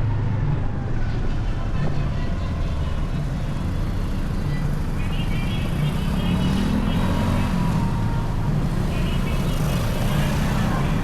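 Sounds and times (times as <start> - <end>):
road and wind rumble: 0.0 - 11.0.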